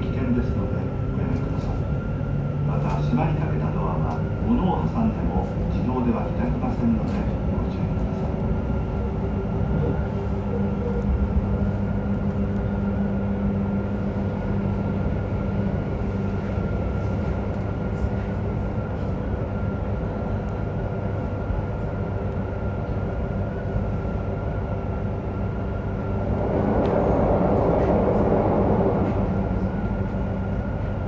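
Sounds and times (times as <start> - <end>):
train car running rumble: 0.0 - 31.0.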